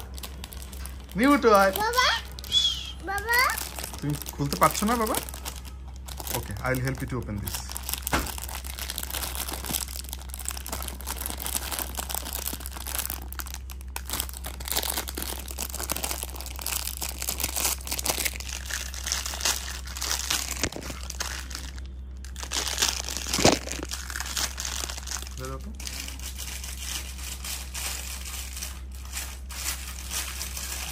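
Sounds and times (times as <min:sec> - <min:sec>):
plastic bag crinkling: 0:00.0 - 0:30.9.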